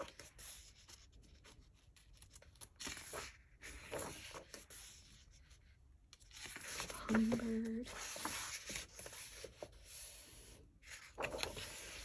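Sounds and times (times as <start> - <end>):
page turning: 0.0 - 5.2, 6.1 - 12.0
paper rustling: 0.0 - 12.0.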